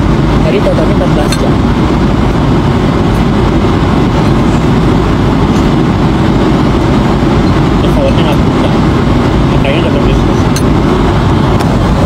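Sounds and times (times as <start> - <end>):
airliner cabin engine rush: 0.0 - 12.0.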